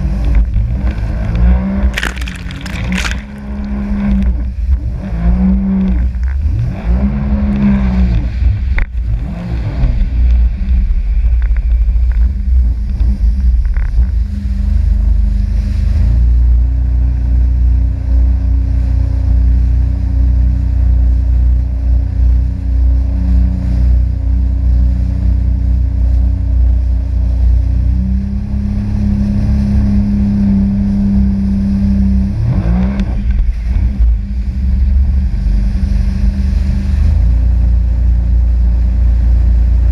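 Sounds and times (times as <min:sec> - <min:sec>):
wind and water rumble: 0:00.0 - 0:39.9.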